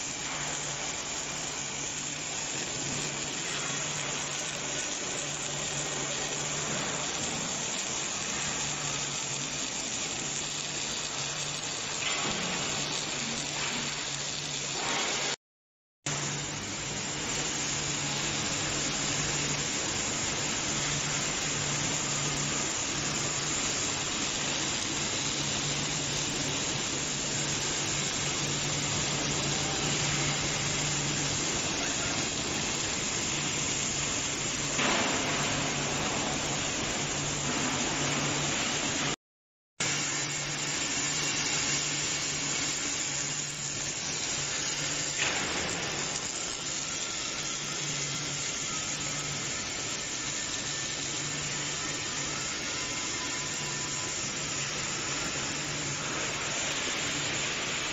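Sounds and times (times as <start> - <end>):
welding arc hiss and crackle: 0.0 - 15.4, 16.1 - 39.2, 39.8 - 57.9.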